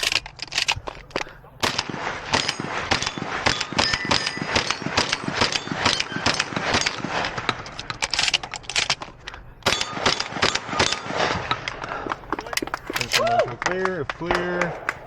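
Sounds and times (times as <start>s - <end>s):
gun and gear clattering: 0.0s - 13.3s.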